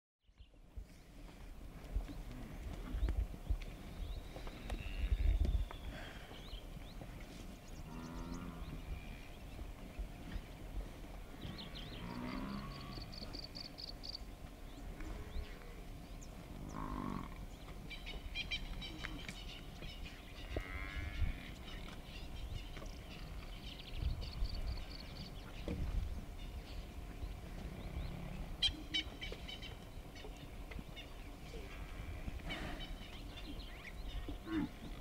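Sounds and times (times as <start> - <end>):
birds chirping: 0.2 - 35.0
buffalo lowing: 0.9 - 21.9, 22.6 - 35.0.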